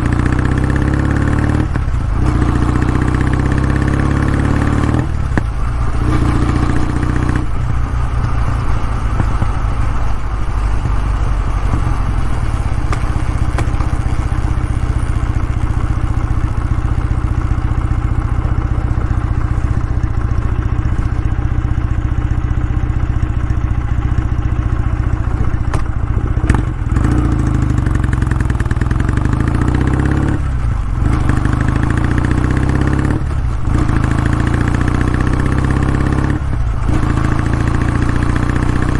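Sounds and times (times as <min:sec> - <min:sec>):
motorcycle engine and exhaust running: 0:00.0 - 0:38.9.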